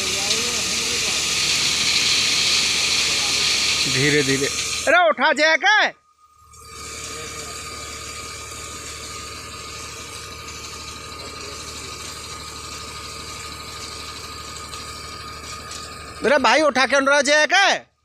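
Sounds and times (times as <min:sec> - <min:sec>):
diesel truck engine running: 0:00.0 - 0:04.9, 0:07.3 - 0:17.5
high hydraulic whine: 0:00.0 - 0:18.0.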